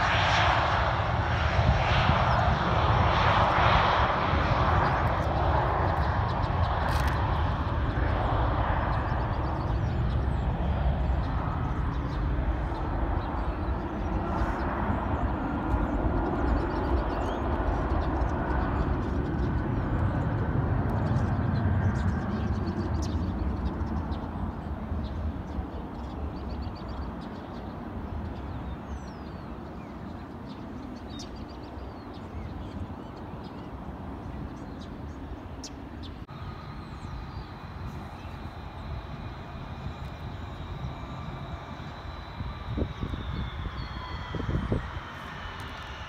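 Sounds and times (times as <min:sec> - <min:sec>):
distant jet engine rumble: 0:00.0 - 0:46.0
jet turbofans whining: 0:00.0 - 0:46.0.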